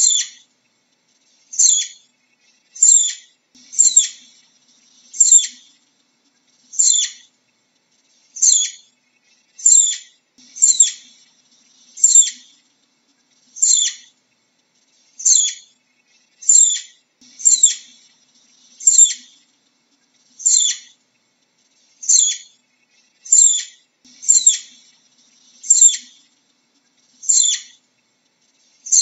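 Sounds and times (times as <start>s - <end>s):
flying squirrel chirping: 0.0s - 29.0s.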